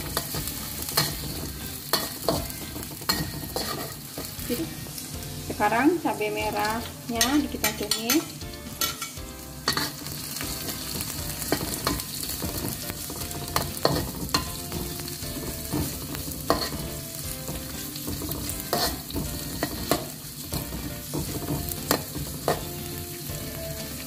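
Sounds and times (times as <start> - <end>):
food sizzling in hot oil: 0.0 - 24.0
spatula scraping a wok: 0.0 - 24.0.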